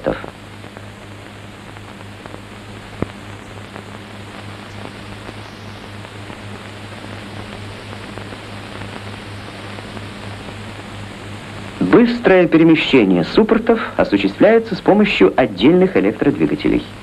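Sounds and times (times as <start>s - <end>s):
faint crackle: 0.0s - 17.0s
film soundtrack hiss and hum: 0.0s - 17.0s.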